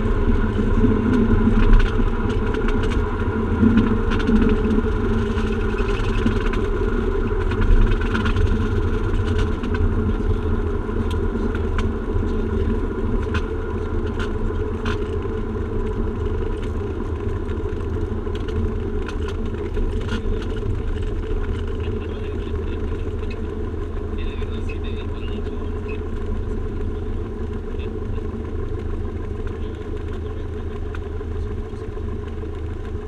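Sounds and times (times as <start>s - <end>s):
aircraft cabin rumble: 0.0s - 33.0s
faint clicks and rattles: 0.5s - 33.0s.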